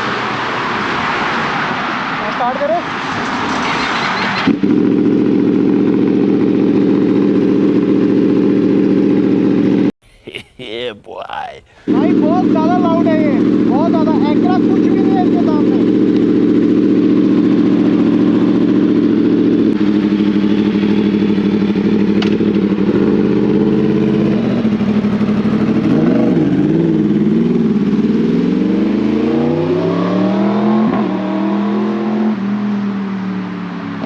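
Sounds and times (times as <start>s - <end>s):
motorcycle engine revving: 3.4s - 9.9s, 11.9s - 34.0s.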